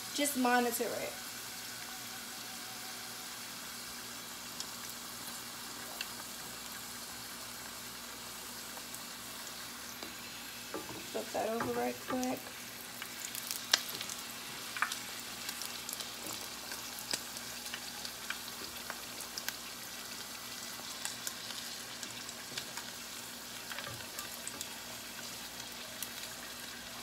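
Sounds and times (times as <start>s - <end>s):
food sizzling in hot oil: 0.0s - 27.0s
oil crackling: 4.2s - 27.0s.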